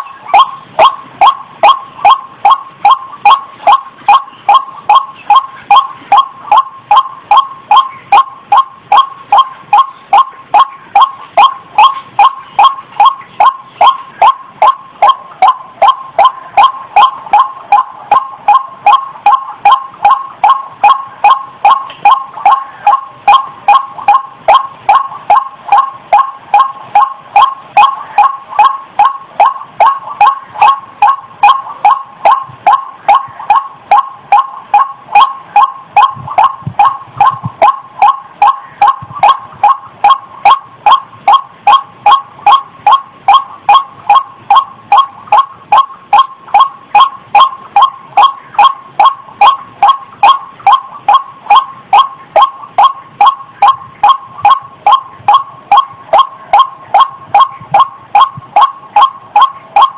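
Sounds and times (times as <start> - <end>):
waterhen calling: 0.0 - 59.9.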